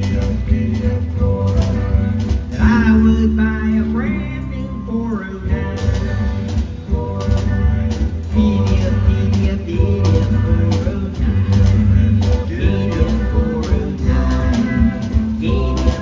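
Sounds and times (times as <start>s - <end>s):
rock and roll band music: 0.0s - 16.0s.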